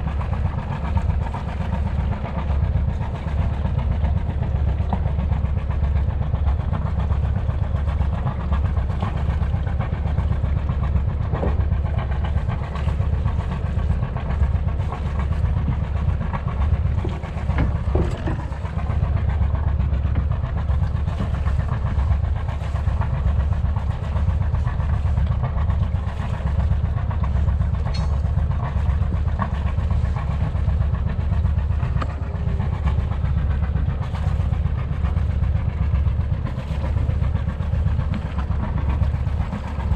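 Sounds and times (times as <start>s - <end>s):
diesel engine throbbing: 0.0s - 39.9s.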